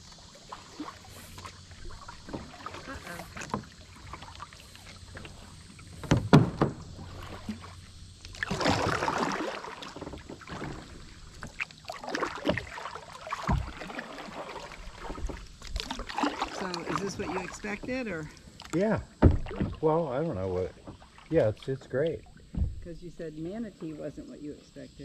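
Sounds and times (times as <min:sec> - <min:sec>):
paddle splashing in water: 0:00.0 - 0:22.8.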